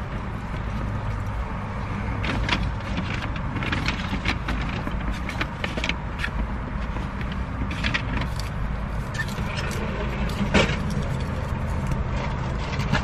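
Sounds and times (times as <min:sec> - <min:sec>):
car engine low rumble: 0:00.0 - 0:13.0
clicks and rustles of bags: 0:02.1 - 0:13.0.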